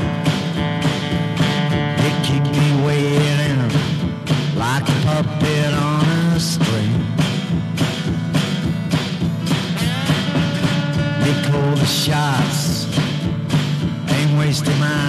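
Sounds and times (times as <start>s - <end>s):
acoustic guitar blues: 0.0s - 15.0s.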